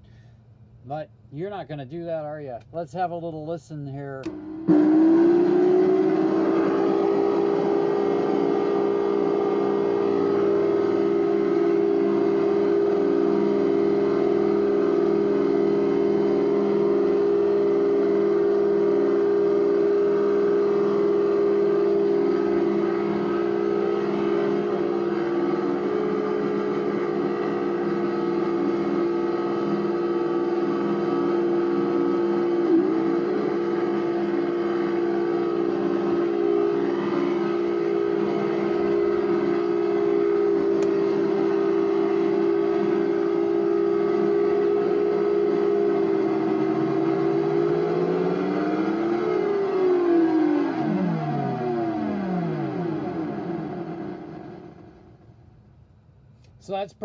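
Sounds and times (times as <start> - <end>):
electronic drone of close tones: 0.9 - 55.6.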